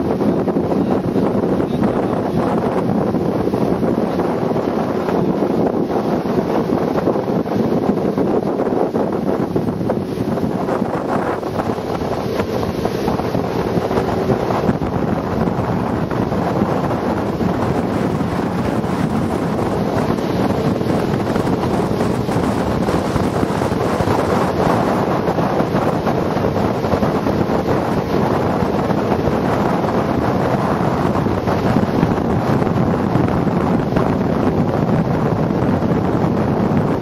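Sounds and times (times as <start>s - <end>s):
boat engine drone: 0.0s - 37.0s
water rushing: 0.0s - 37.0s
wind buffeting microphone: 0.0s - 37.0s.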